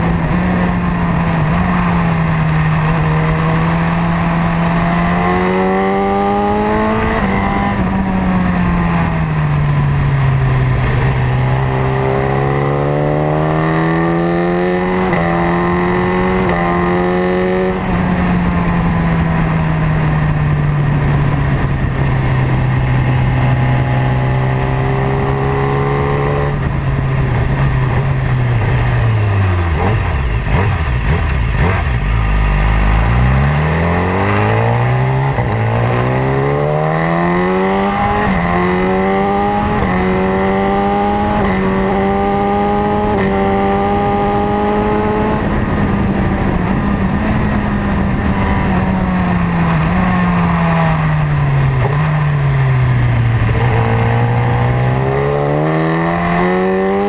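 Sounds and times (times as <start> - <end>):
wind rush: 0.0 - 32.2, 32.8 - 57.0
motorcycle engine revving: 0.0 - 57.0.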